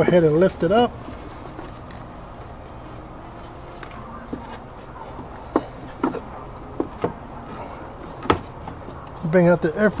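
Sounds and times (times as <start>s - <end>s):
faint background noise: 0.0s - 10.0s.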